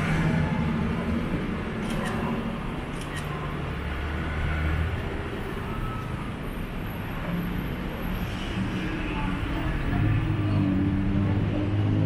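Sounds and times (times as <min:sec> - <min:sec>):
busy street noise: 0:00.0 - 0:12.0.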